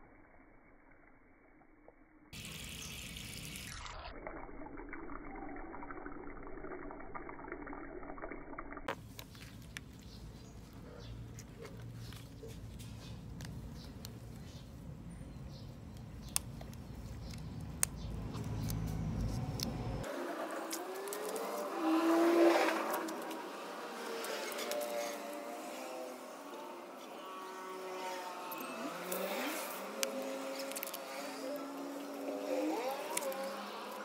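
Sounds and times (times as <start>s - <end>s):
low outdoor background: 0.0s - 34.0s.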